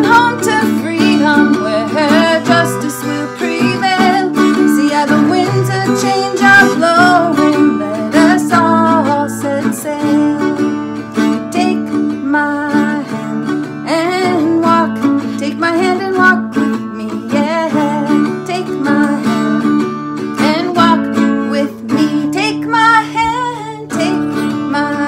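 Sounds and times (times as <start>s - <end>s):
acoustic guitar strumming chords: 0.0s - 25.0s
woman singing: 0.0s - 25.0s.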